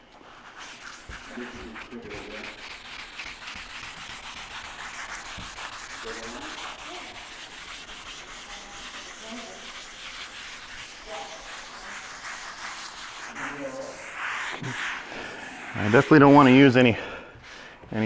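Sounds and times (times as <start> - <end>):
wet sandpaper rubbing: 0.0 - 18.0.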